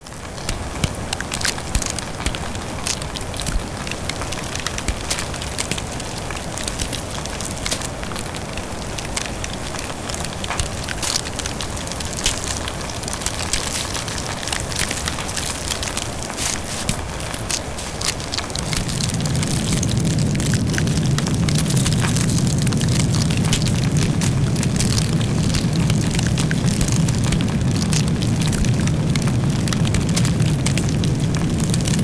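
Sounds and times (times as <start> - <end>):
fire crackling and popping: 0.0 - 32.0
bonfire flames rushing: 0.1 - 32.0.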